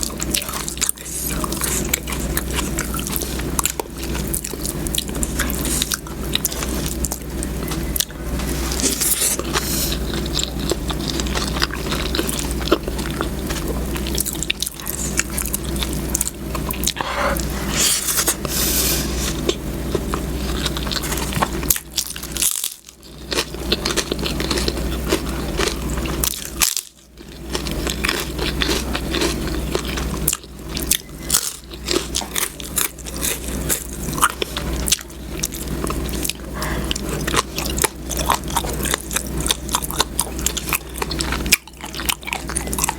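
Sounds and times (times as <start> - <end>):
biting and chewing: 0.0 - 42.9
steady low hum: 0.0 - 42.9.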